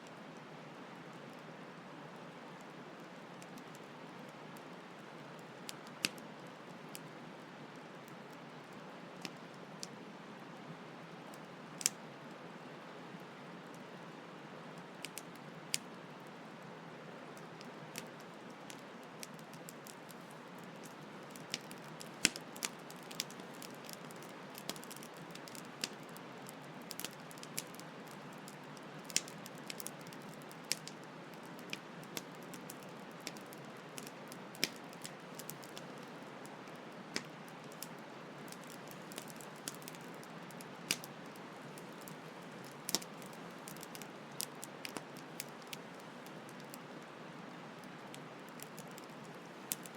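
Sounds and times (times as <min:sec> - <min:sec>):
campfire crackling: 0:00.2 - 0:49.9.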